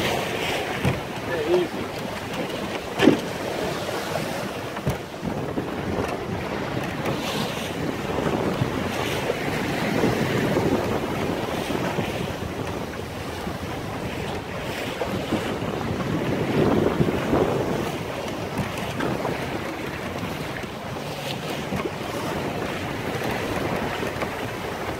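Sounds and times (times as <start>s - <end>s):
water slapping against hull: 0.0s - 24.9s
wind buffeting microphone: 0.0s - 24.9s.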